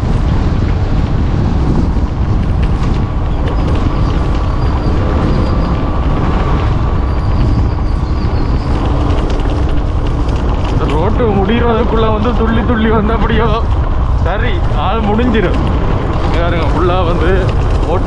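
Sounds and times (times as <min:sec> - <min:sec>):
motorcycle engine rumble: 0:00.0 - 0:18.0
road noise: 0:00.0 - 0:18.0
wind noise: 0:00.0 - 0:18.0.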